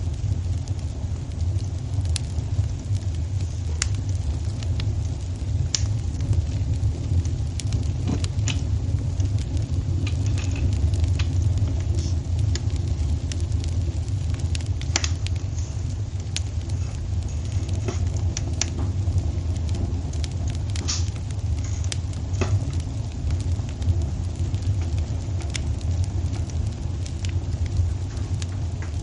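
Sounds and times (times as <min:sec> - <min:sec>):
fire popping and snapping: 0:00.0 - 0:29.0
low rumble of fire: 0:00.0 - 0:29.0.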